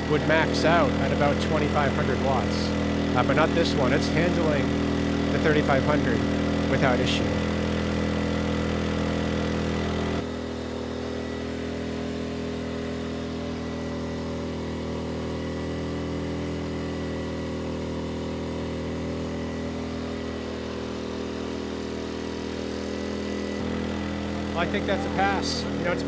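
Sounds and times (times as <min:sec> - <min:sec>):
generator engine running steadily: 0:00.0 - 0:26.0.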